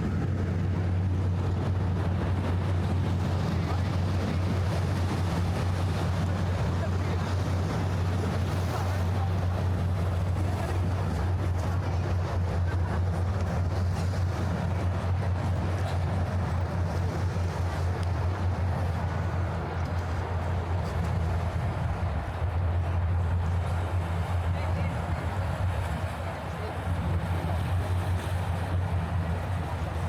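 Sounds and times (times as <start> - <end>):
low engine hum: 0.0 - 30.0
water noise: 0.0 - 30.0
wind: 0.0 - 30.0.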